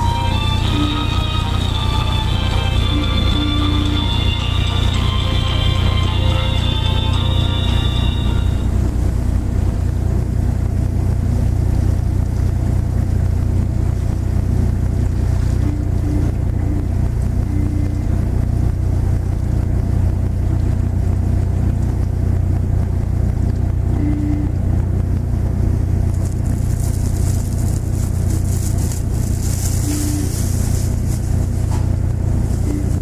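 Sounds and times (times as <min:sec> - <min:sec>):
ship diesel engine droning: 0:00.0 - 0:33.0.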